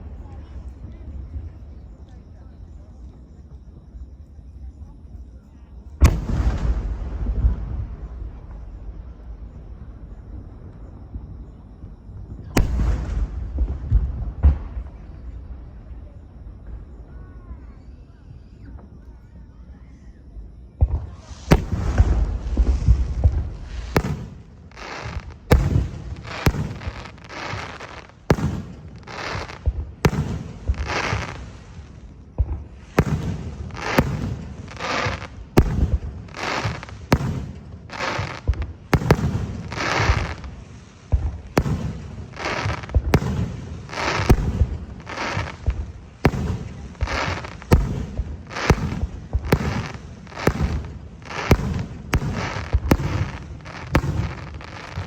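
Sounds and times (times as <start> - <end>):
fireworks bursting with crackling: 6.0 - 18.0, 20.8 - 55.0.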